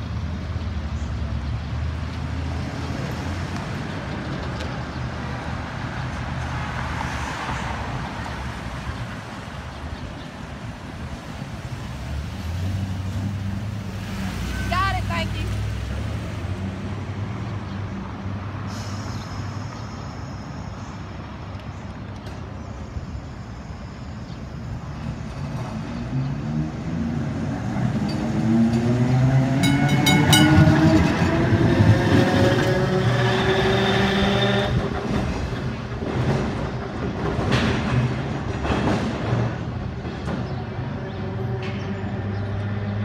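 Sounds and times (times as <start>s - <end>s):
streetcar passing on rails: 0.0s - 43.0s.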